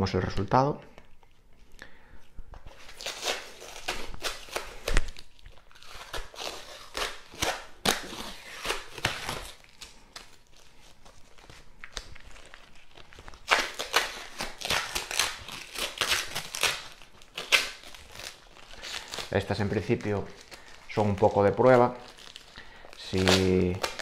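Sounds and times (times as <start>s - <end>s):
paper crinkling and tearing: 2.7s - 24.0s.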